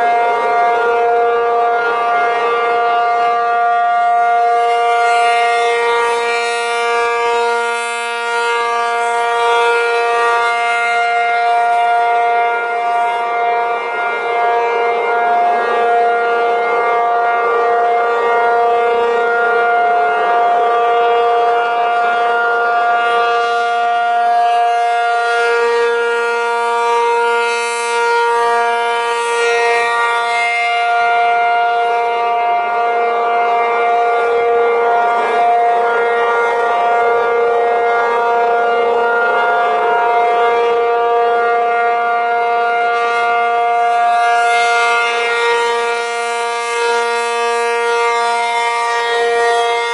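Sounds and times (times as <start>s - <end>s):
two-tone warning siren: 0.0s - 49.9s.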